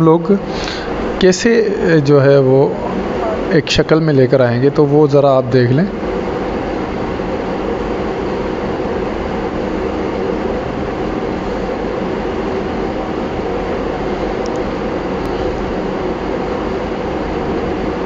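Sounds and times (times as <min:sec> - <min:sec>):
steady rushing fan noise: 0:00.0 - 0:18.0.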